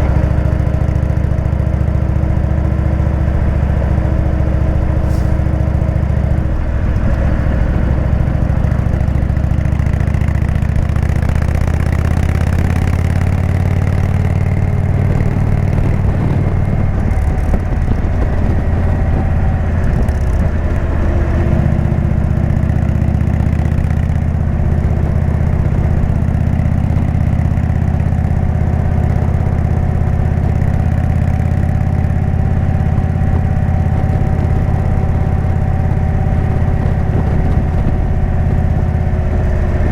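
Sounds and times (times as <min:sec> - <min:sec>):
v-twin motorcycle engine running: 0:00.0 - 0:39.9.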